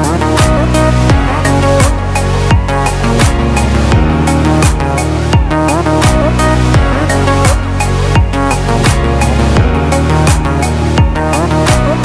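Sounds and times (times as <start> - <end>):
sustained synth chords: 0.0 - 12.0
deep kick drums: 0.4 - 12.0.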